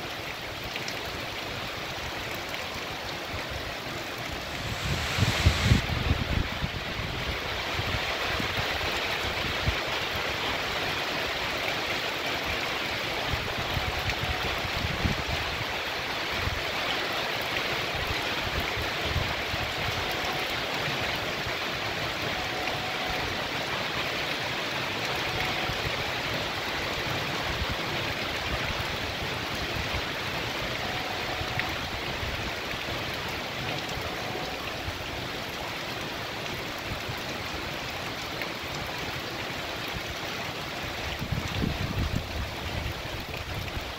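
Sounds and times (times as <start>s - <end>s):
heavy rain on pavement: 0.0s - 43.9s
runoff water running: 0.0s - 43.9s.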